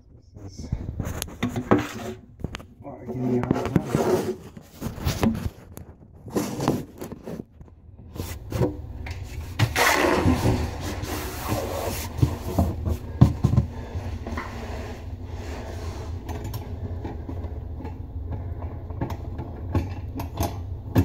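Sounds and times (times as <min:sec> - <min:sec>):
handling noise rubbing and knocking: 0:00.1 - 0:21.0.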